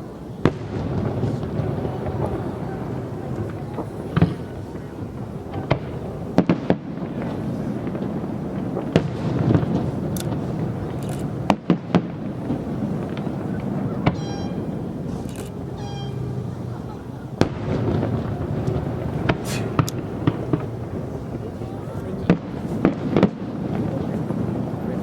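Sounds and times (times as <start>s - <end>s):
fireworks bangs: 0.0s - 25.0s
low background noise: 0.0s - 25.0s.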